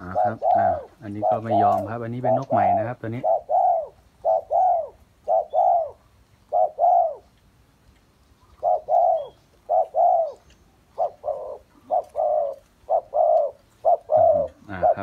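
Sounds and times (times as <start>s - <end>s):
dove cooing: 0.0s - 7.3s, 8.4s - 15.0s.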